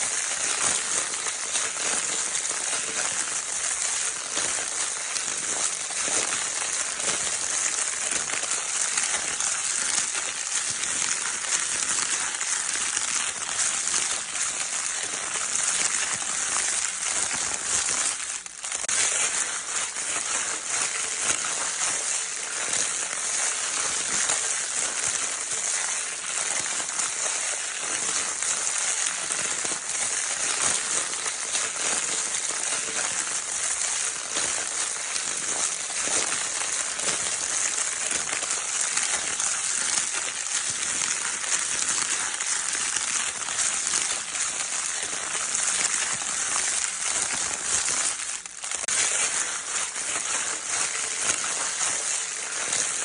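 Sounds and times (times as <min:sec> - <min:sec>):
crinkle paper being crumpled: 0:00.0 - 0:53.0.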